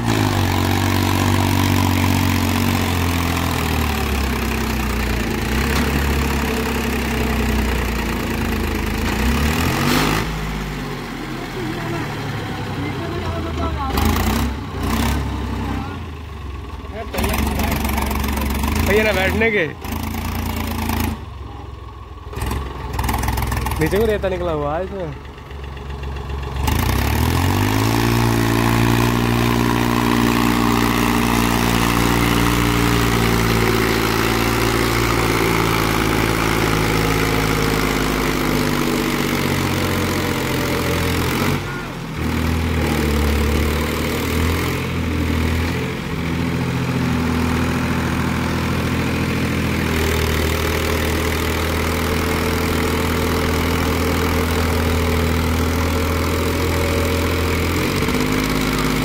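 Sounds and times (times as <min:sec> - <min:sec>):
tractor engine working hard: 0:00.0 - 0:59.0.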